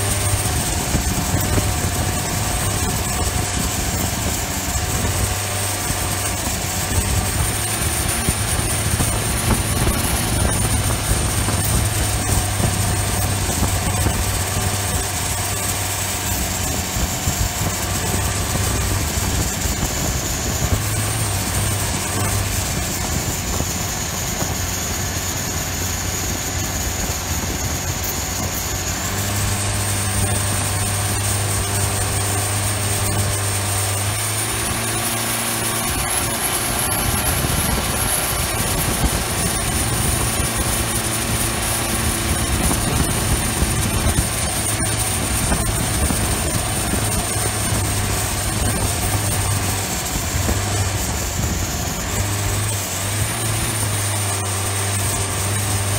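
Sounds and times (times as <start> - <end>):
diesel boat engine drone: 0.0 - 55.9.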